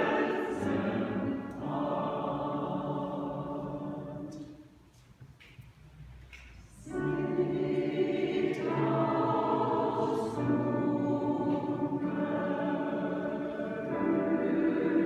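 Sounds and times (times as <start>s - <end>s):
mixed choir singing: 0.0s - 4.6s, 6.8s - 15.0s.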